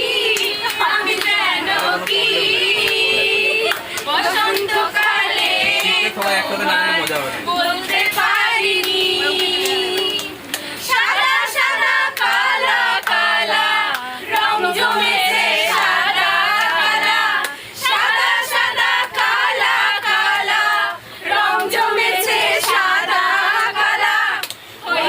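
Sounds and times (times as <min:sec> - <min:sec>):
women singing without instruments: 0:00.0 - 0:06.8, 0:07.4 - 0:25.0.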